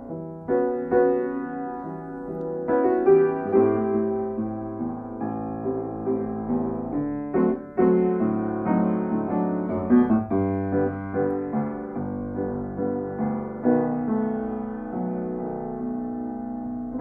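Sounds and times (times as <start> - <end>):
piano chords and melody: 0.0 - 17.0.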